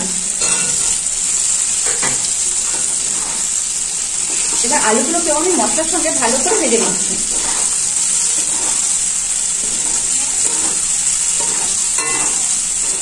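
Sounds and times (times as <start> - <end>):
food sizzling in oil: 0.0 - 13.0
spatula stirring in pan: 0.0 - 13.0.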